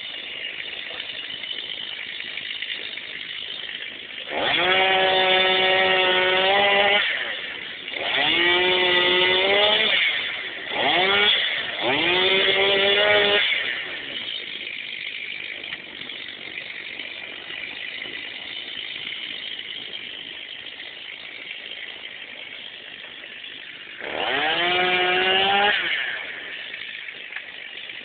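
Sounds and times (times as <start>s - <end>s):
chainsaw revving and idling: 0.0s - 28.0s.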